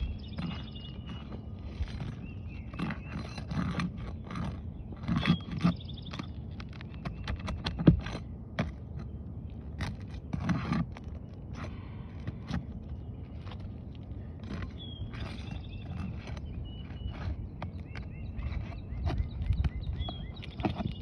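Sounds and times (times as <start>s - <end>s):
hand tool scraping under shingle: 0.0s - 21.0s.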